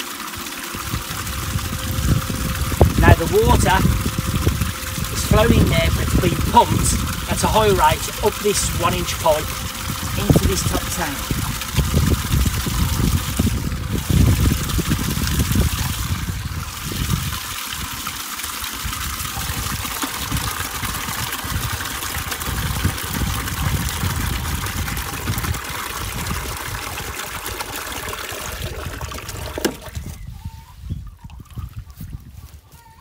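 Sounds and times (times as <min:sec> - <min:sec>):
water pouring into a bucket: 0:00.0 - 0:30.4, 0:31.0 - 0:32.4.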